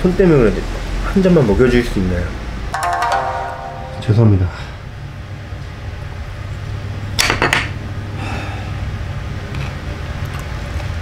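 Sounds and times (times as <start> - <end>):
restaurant room hum: 0.0 - 11.0.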